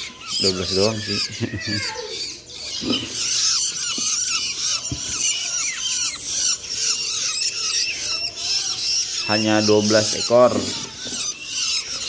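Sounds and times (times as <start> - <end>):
chicks chirping: 0.0 - 12.0.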